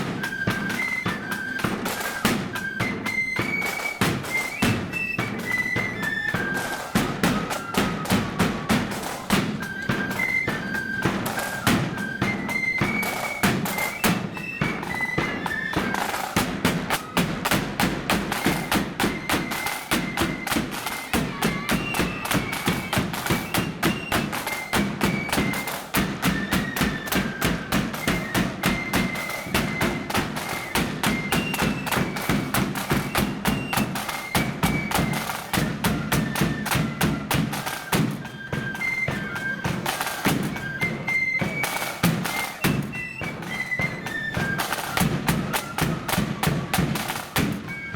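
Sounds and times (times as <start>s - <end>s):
flute melody: 0.0s - 47.9s
rapid snare drum beats: 0.0s - 47.9s.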